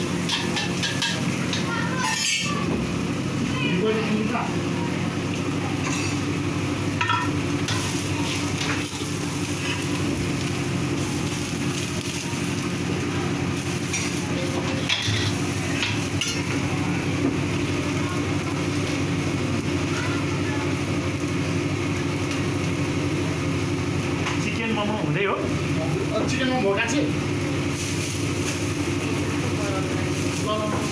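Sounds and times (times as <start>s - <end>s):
food sizzling in a wok: 0.0s - 30.9s.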